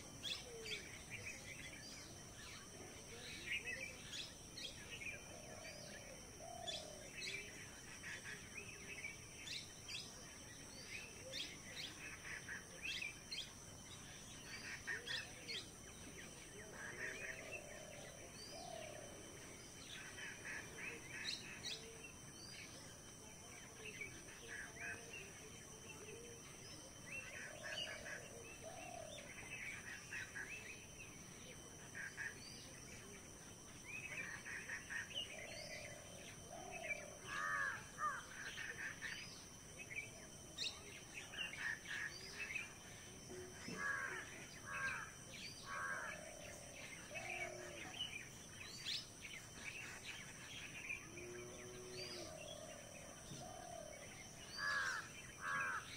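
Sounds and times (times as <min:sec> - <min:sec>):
birds chirping: 0:00.0 - 0:55.9
soft outdoor background: 0:00.0 - 0:55.9.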